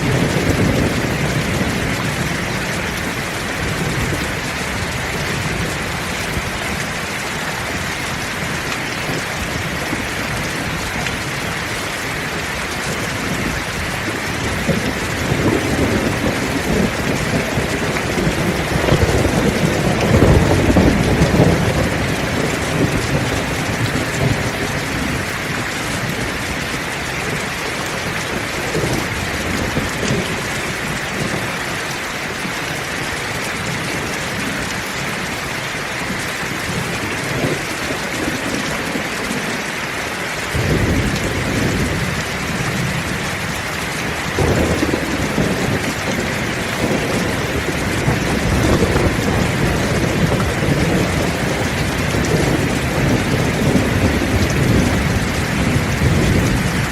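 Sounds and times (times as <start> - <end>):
thunder rumbling: 0.0 - 31.6, 40.5 - 56.9
heavy rain pouring: 0.0 - 56.9.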